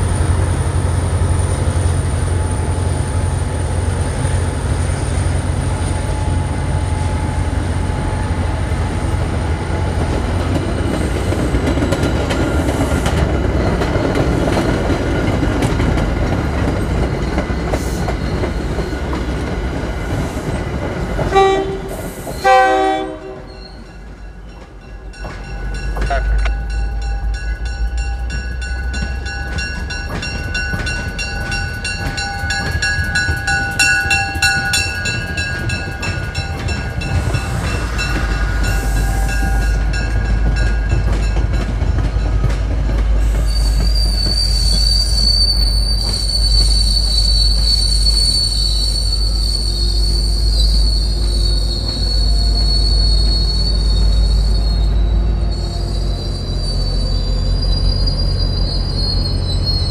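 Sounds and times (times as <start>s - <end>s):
steel wheels squealing on rails: 0.0s - 59.9s
train rolling past with low rumble: 0.0s - 59.9s.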